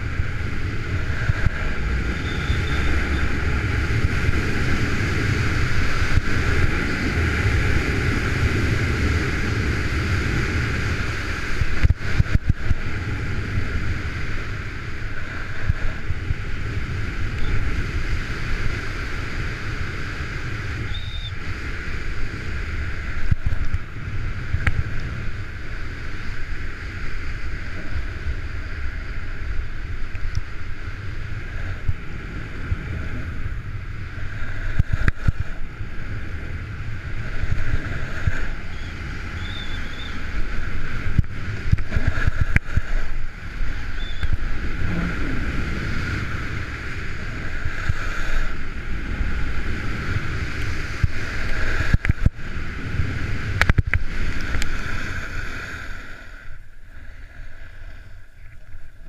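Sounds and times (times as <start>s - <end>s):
skis carving snow hiss: 0.0s - 59.0s
wind rumbling on microphone: 0.0s - 59.0s.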